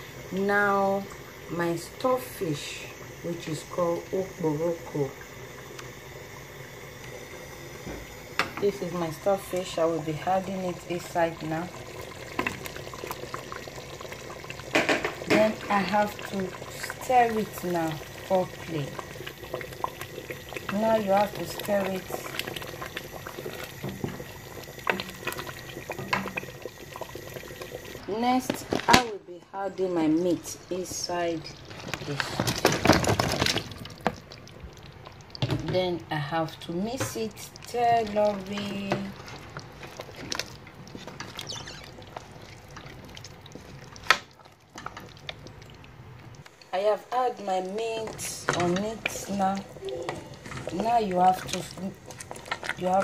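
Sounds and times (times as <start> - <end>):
stew bubbling in a pot: 0.0 - 53.0.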